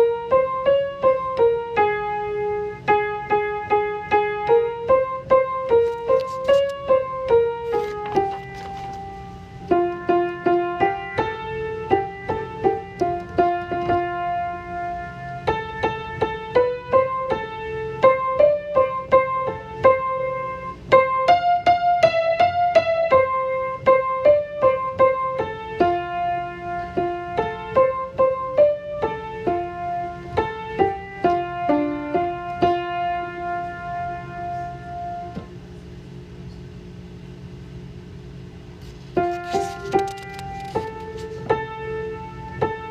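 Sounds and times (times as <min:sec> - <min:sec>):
piano melody: 0:00.0 - 0:35.7, 0:39.0 - 0:42.9.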